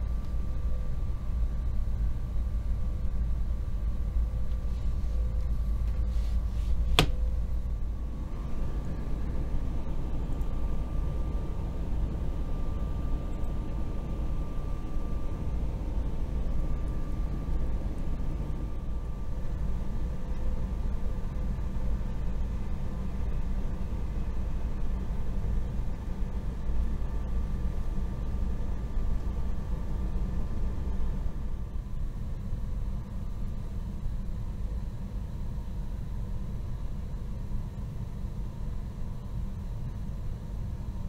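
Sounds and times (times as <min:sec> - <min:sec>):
faint steady whine: 0:00.0 - 0:41.0.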